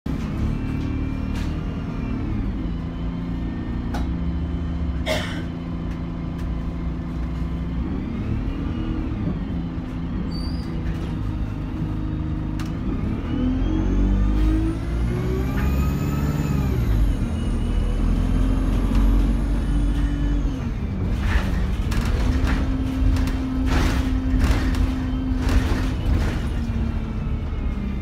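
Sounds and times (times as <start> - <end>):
bus engine and transmission: 0.0 - 28.0.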